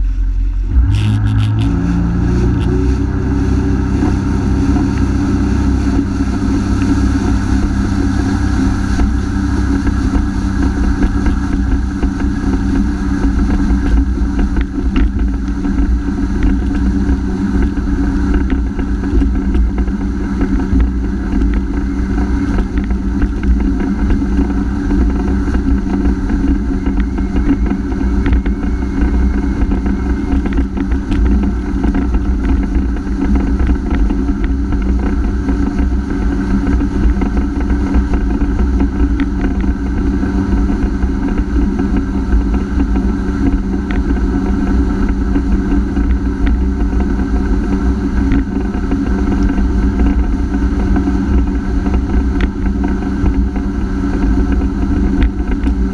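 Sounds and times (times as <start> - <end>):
watercraft engine running: 0.0 - 55.9.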